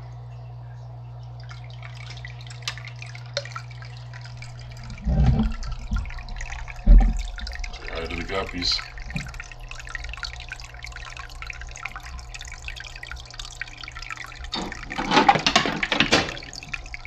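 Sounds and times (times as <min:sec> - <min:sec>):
steady low hum: 0:00.0 - 0:17.0
water trickling into aquarium: 0:00.0 - 0:17.0.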